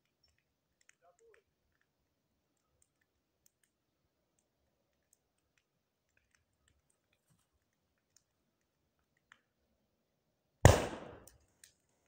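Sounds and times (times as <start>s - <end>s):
fire pops and ticks: 0.0s - 9.5s, 10.7s - 12.0s
campfire crackling: 0.0s - 9.8s, 10.7s - 12.0s.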